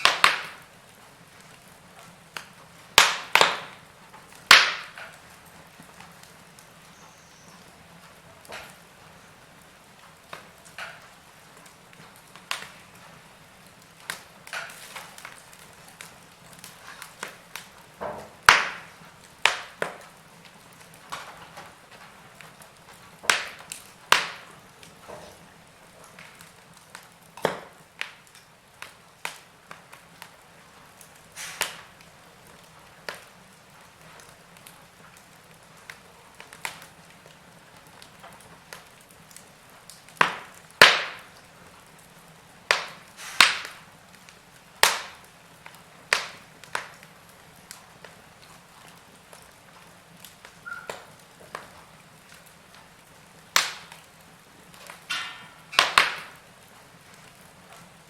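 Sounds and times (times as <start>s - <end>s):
fire popping and snapping: 0.0s - 58.0s
logs crackling in a fireplace: 0.0s - 58.0s.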